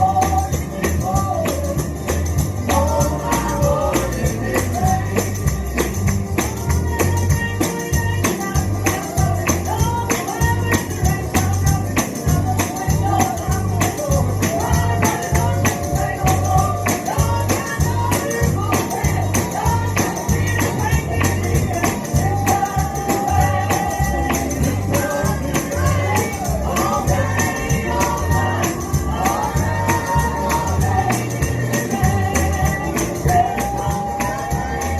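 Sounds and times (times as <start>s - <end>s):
pulsing bass: 0.0s - 34.9s
tambourine shaken: 0.0s - 34.9s.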